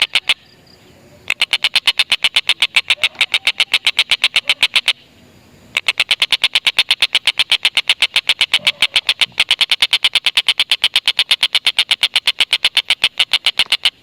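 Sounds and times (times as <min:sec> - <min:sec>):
kingfisher laughing chatter: 0:01.2 - 0:05.0, 0:05.8 - 0:13.7.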